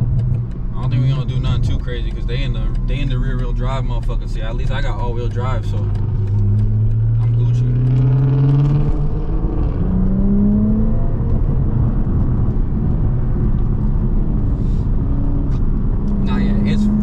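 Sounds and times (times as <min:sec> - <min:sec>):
car engine running: 0:00.0 - 0:17.0
road rumble inside car: 0:00.0 - 0:17.0.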